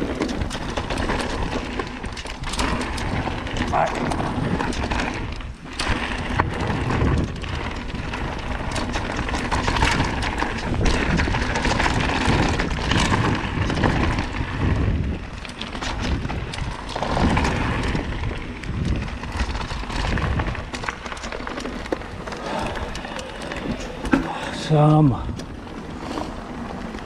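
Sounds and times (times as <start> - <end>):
bike rattling and knocking: 0.0 - 27.0
tyres crunching over stones: 0.0 - 27.0
wind buffeting microphone: 0.0 - 27.0.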